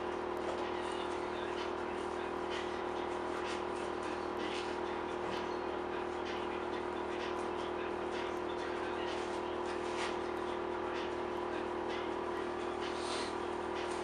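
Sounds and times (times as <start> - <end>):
steady workshop hum: 0.0 - 14.0.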